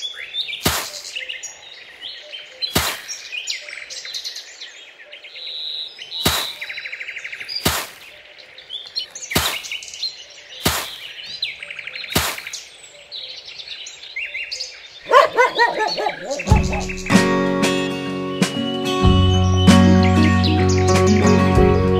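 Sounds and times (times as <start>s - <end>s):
birds chirping and trilling: 0.0s - 21.9s.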